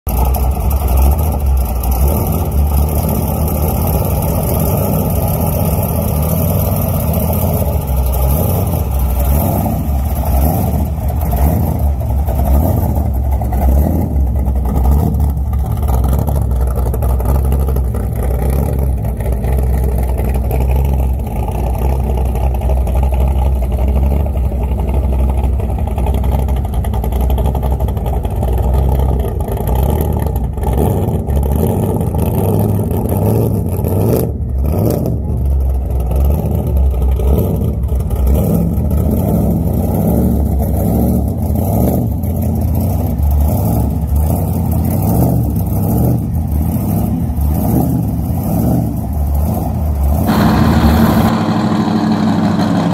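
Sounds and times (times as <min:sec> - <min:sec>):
car engine idling loudly: 0:00.0 - 0:52.9.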